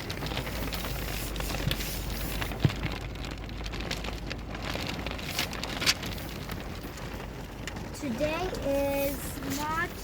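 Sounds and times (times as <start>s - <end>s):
hail ticking on surfaces: 0.0s - 10.0s.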